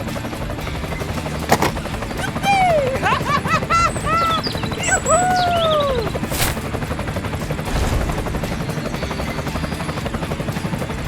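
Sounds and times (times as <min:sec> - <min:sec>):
small motor rattling: 0:00.0 - 0:11.0.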